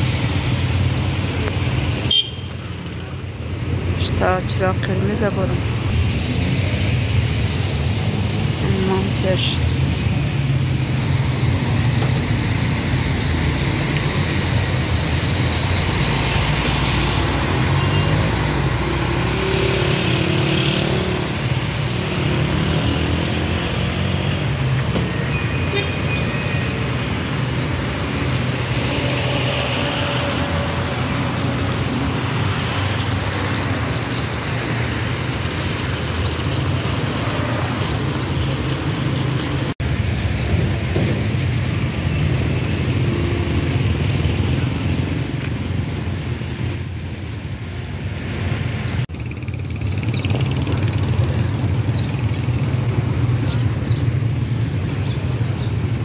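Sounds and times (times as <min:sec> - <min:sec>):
street traffic hum: 0:00.0 - 0:56.0.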